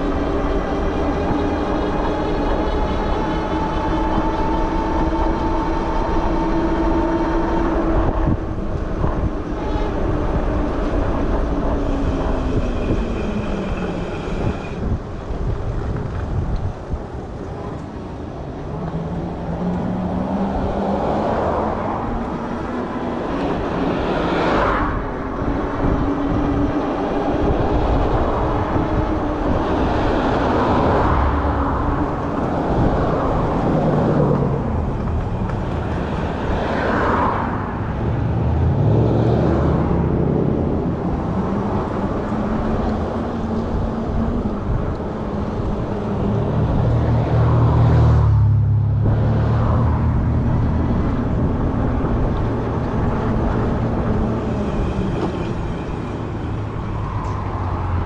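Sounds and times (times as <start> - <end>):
passing traffic: 0.0 - 58.0
road noise: 0.0 - 58.0
wind buffeting microphone: 0.0 - 58.0.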